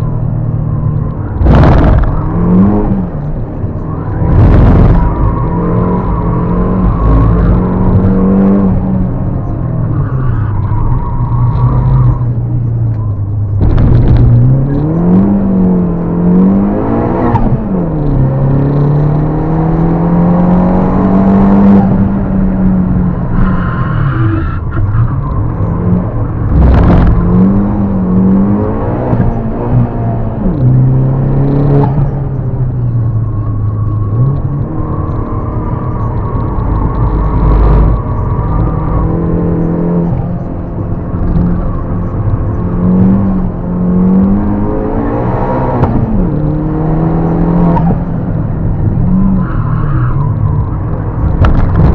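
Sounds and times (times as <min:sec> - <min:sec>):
car engine accelerating hard: 0:00.0 - 0:51.9.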